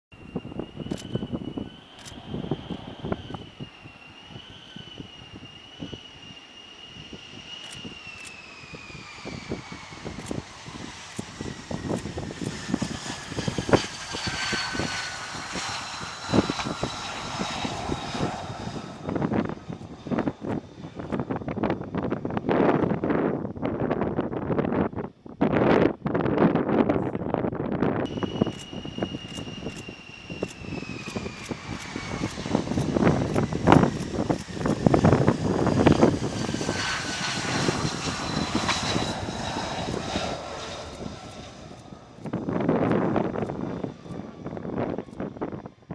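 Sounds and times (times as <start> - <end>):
jet engine whine: 0.1 - 45.9.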